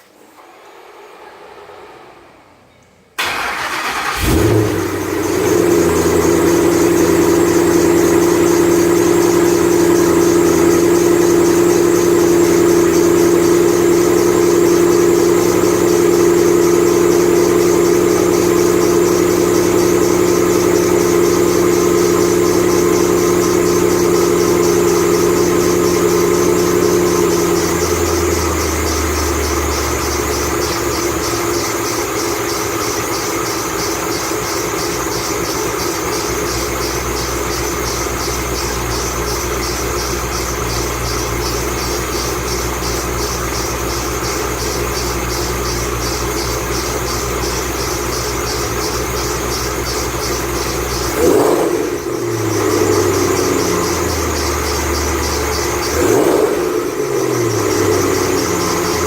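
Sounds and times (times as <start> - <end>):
car engine idling: 3.2 - 59.0
engine revving: 3.2 - 59.0
squealing belt chirping: 5.2 - 59.0.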